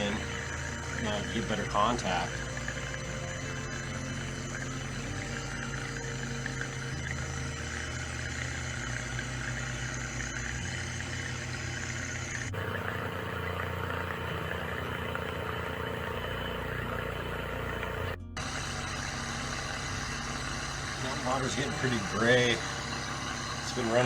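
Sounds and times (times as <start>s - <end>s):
electric motor running in water: 0.0s - 24.0s.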